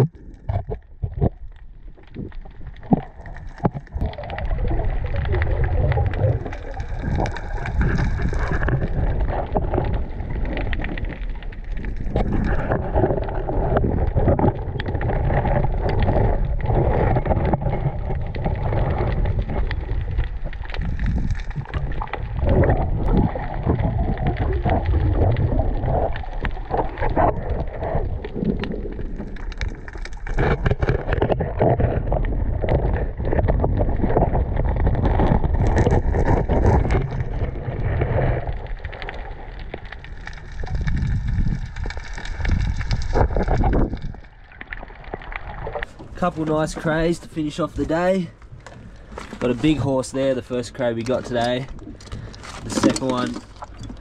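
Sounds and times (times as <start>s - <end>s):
muffled underwater water rumble: 0.0s - 54.0s.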